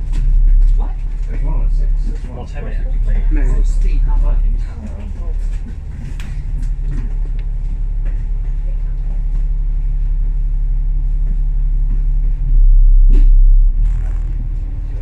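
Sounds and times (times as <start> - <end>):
bus engine and road drone: 0.0 - 15.0
deep rumble: 0.0 - 15.0.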